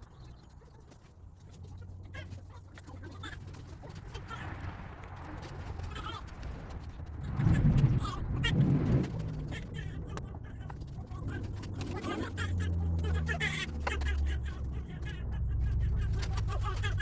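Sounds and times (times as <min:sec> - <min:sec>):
low rumble of hands handling wires: 0:03.2 - 0:17.0.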